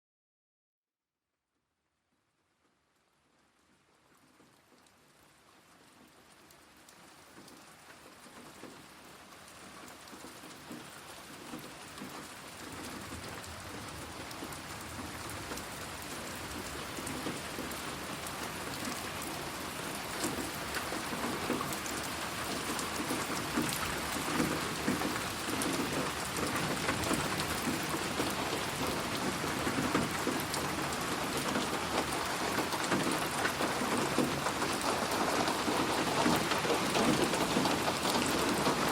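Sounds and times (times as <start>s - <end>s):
steady rain falling: 2.2s - 38.9s.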